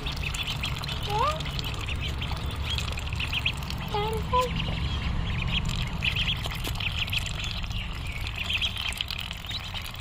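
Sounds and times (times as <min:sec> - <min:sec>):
ducklings peeping: 0:00.0 - 0:10.0.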